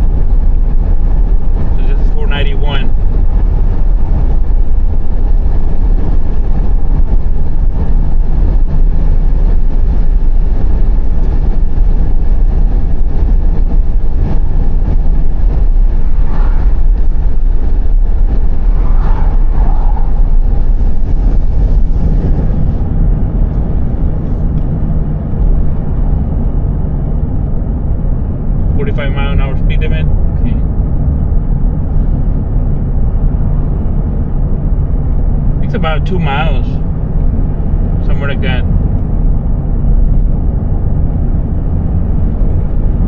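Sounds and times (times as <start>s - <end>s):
car driving low rumble: 0.0s - 43.0s.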